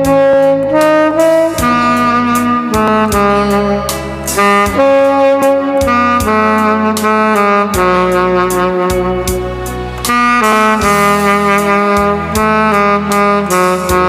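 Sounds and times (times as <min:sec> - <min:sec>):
bass line: 0:00.0 - 0:14.0
lead melody: 0:00.0 - 0:14.0.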